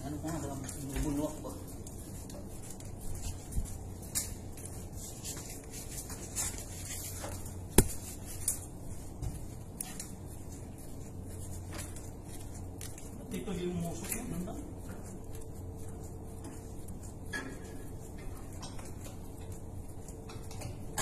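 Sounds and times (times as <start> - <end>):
low hum of machinery: 0.0 - 21.0.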